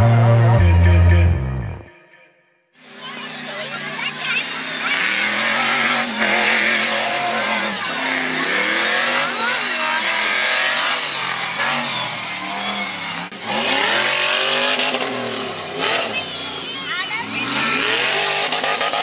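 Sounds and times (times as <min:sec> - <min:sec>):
buggy engine revving: 0:02.8 - 0:19.0.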